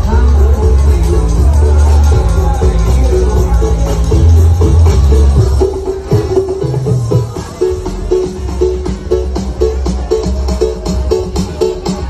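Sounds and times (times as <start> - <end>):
bass-heavy music on sound system: 0.0 - 12.0.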